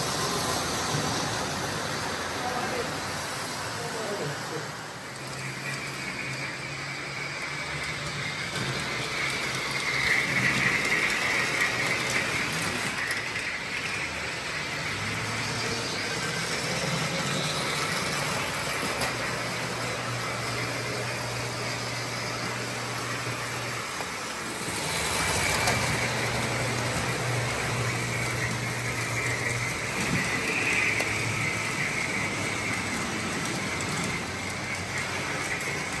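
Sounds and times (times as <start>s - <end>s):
model train wheels rattling: 0.0s - 36.0s.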